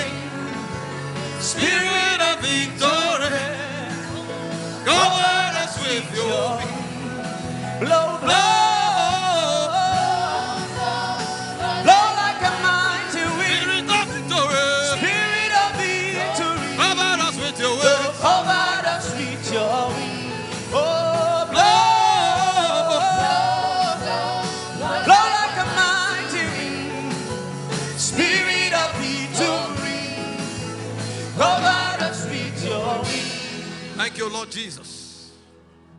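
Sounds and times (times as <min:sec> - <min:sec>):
gospel singing with backing: 0:00.0 - 0:34.4.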